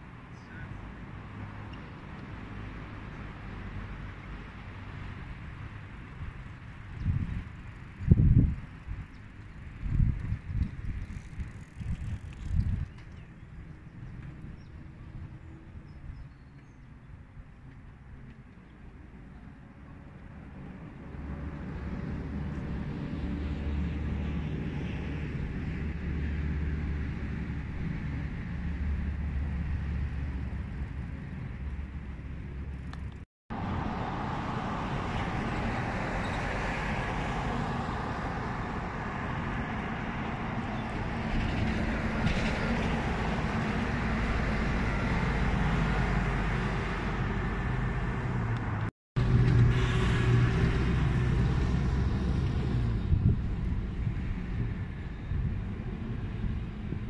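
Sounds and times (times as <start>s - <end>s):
car and bus engines passing: 0.0s - 15.8s, 16.8s - 57.0s.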